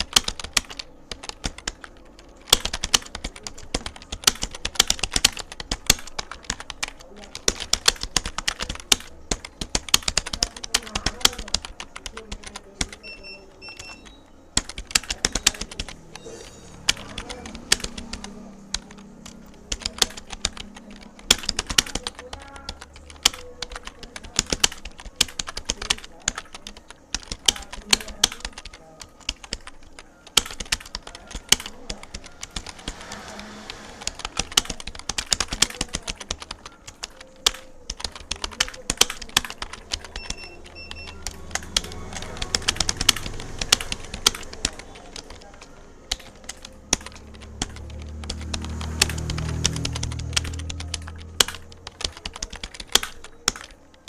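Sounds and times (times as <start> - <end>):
fast keyboard typing: 0.0 - 54.0.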